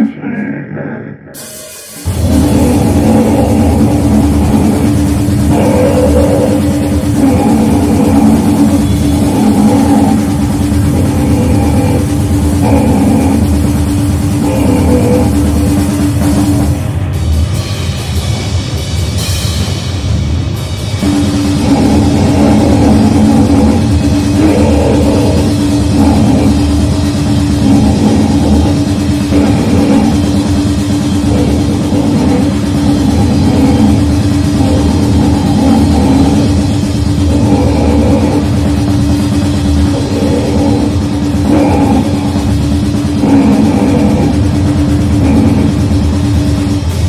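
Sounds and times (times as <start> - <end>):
low droning tone: 0.0 - 17.7, 21.0 - 47.0
harsh noise music: 0.0 - 47.0.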